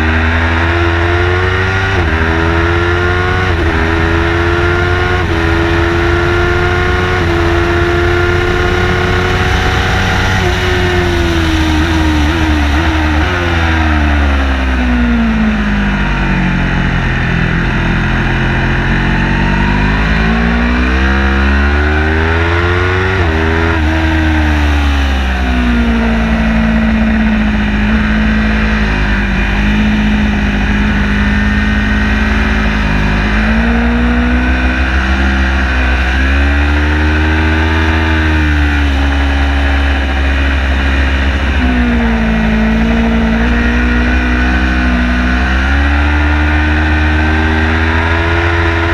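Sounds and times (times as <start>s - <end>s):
car engine revving: 0.0s - 48.9s
deep rumble: 0.0s - 48.9s.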